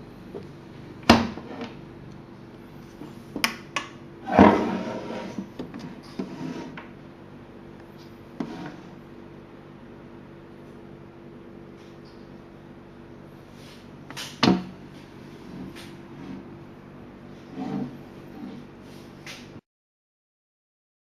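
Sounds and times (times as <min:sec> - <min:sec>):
faint steady hum: 0:00.0 - 0:19.6.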